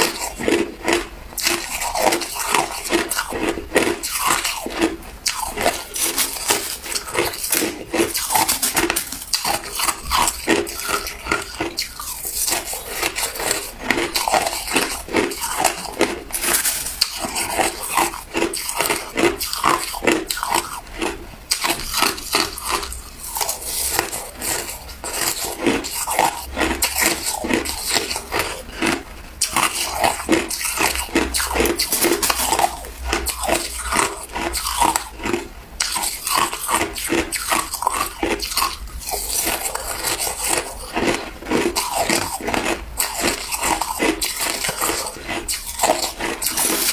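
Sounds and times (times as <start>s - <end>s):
ice being bitten and chewed: 0.0s - 46.9s.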